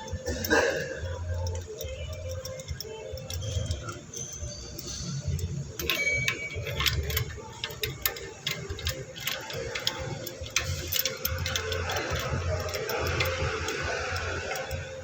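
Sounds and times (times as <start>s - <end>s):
metallic hand tool clicks: 1.0s - 15.0s.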